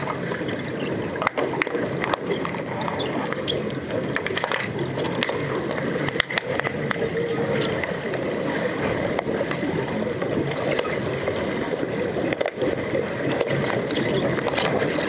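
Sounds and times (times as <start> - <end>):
sharp underwater clicks and knocks: 0.0 - 15.0
underwater rushing noise: 0.0 - 15.0.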